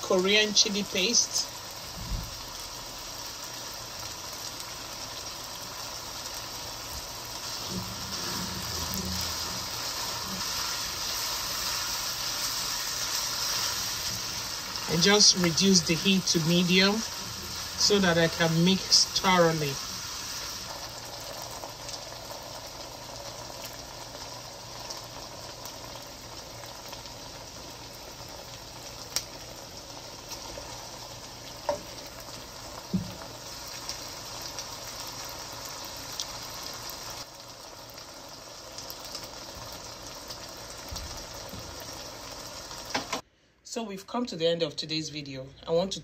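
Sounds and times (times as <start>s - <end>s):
chicken sizzling in a wok: 0.0s - 43.3s.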